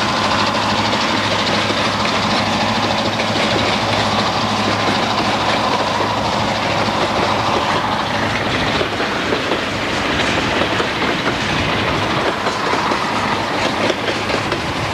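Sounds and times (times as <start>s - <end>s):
freight train wheels clicking: 0.0s - 14.9s.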